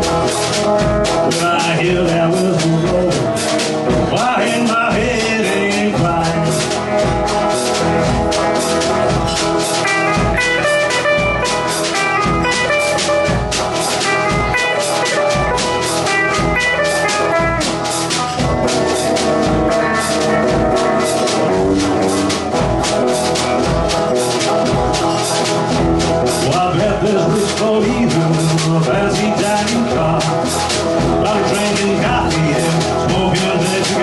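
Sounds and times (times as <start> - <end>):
drum kit steady beat: 0.0 - 34.0
lead melody line: 0.0 - 34.0.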